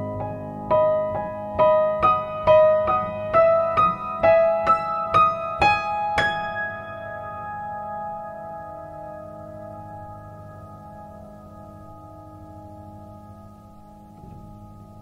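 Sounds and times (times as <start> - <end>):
solo piano notes: 0.0 - 15.0.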